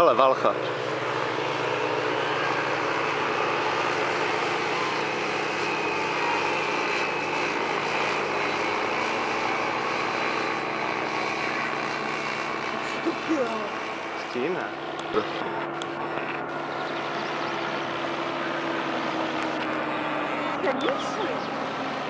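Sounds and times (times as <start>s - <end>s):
propeller engine droning overhead: 0.0s - 22.0s.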